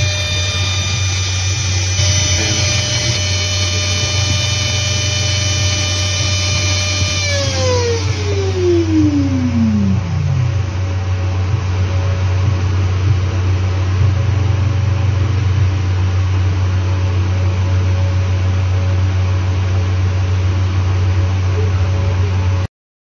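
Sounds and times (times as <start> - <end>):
low machine hum with hiss: 0.0 - 22.7.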